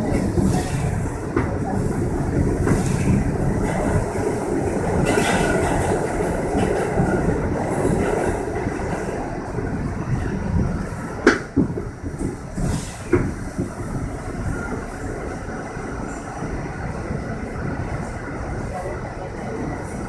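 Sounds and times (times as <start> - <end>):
subway wheels rumbling on rails: 0.0 - 20.0.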